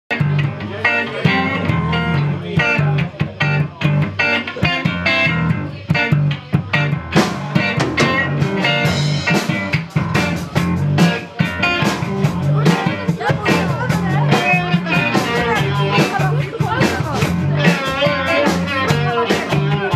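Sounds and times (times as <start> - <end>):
drum kit beat: 0.1 - 19.9
electric guitars: 0.1 - 19.9
rock band playing: 0.1 - 19.9.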